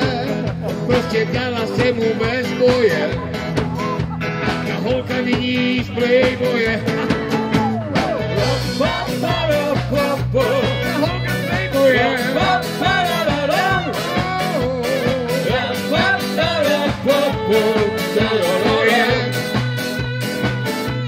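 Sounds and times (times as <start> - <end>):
rock band playing: 0.0 - 21.0
sliding lead melody: 0.0 - 21.0.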